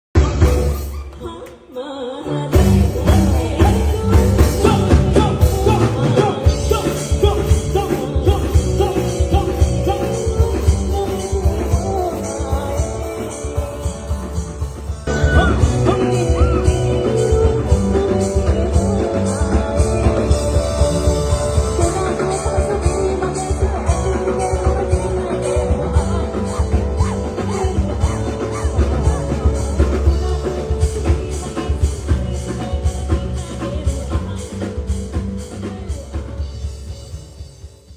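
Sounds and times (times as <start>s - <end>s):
guitar: 0.1s - 37.9s
person singing: 0.9s - 37.0s
steady drum beat: 2.5s - 37.9s.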